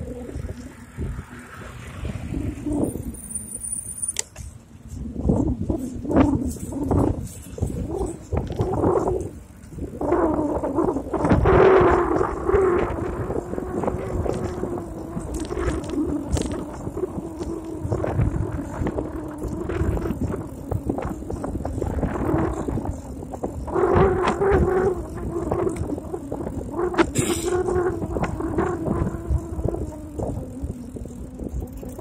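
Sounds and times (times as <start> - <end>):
wind rumble on microphone: 0.0 - 32.0.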